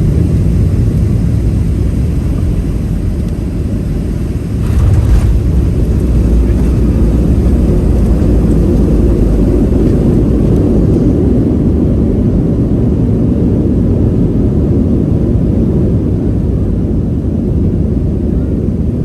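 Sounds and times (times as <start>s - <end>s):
jet engine cabin rumble: 0.0s - 19.0s.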